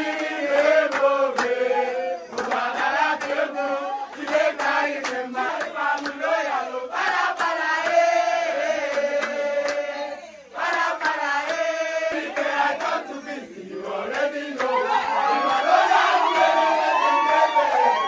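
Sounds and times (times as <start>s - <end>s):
clapping along: 0.0s - 10.0s, 10.6s - 13.4s, 14.1s - 18.0s
men singing in chorus: 0.0s - 18.0s.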